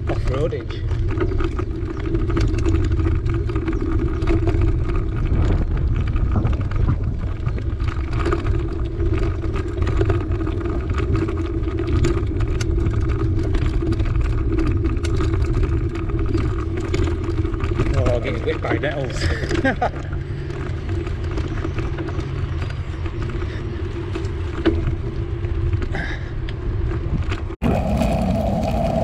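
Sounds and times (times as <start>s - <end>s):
bicycle knocks and rattles: 0.0s - 26.2s
bicycle tyre noise: 0.0s - 29.0s
wind rumble on microphone: 0.0s - 29.0s.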